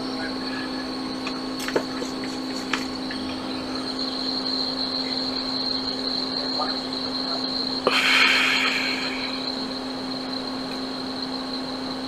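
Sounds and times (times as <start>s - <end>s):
equipment humming: 0.0s - 12.0s
high whine: 0.0s - 12.0s.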